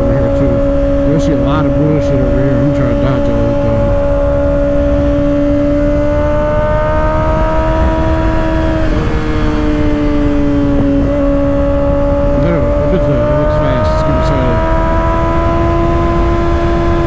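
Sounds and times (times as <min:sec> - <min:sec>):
motorcycle engine at high revs: 0:00.0 - 0:17.0
wind rumble on microphone: 0:00.0 - 0:17.0.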